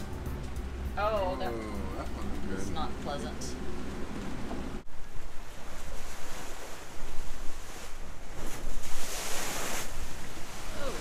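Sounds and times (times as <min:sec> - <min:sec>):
waves washing past hulls: 0:00.0 - 0:11.0.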